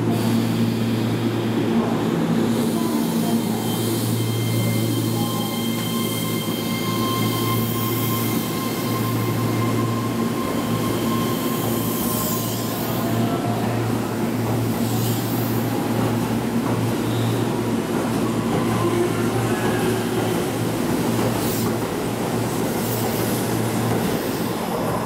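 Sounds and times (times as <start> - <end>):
high train whines: 0.0 - 25.0
train wheels rumbling: 0.0 - 25.0.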